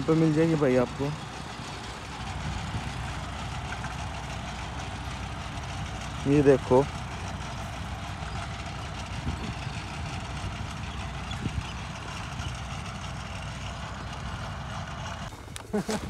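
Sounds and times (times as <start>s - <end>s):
distant tractor rumbling: 0.0s - 16.0s.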